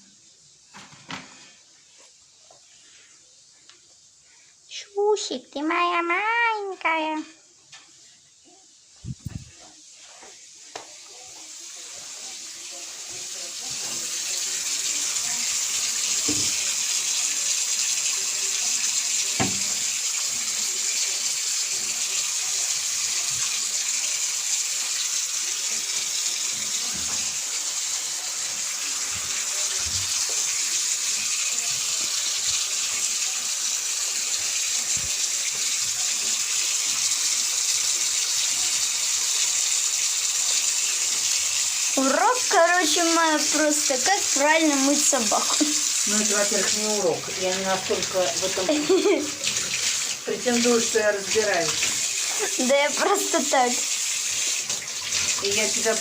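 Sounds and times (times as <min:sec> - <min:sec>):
tap water running: 0:00.0 - 0:56.0.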